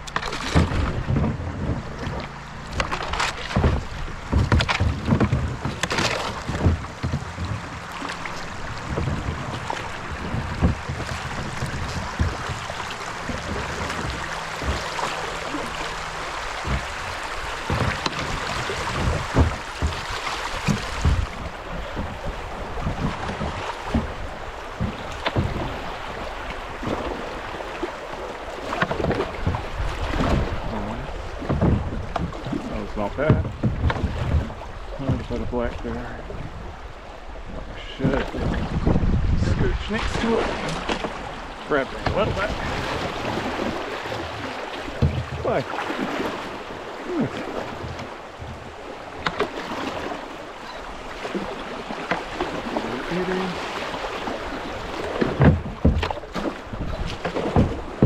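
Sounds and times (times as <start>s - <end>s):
paddle splashes: 0.0s - 58.0s
running water: 0.0s - 58.0s
knocks on kayak: 0.1s - 25.9s, 28.6s - 35.9s, 38.0s - 51.4s, 55.0s - 58.0s.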